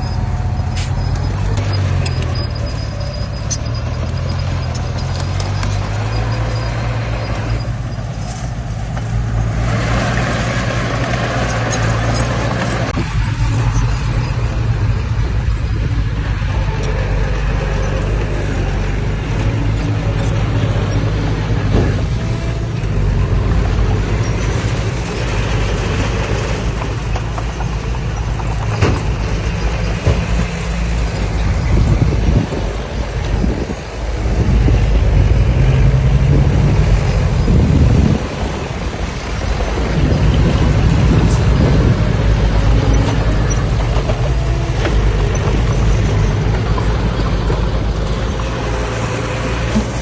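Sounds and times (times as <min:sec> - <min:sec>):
heavy machinery diesel engine: 0:00.0 - 0:50.0.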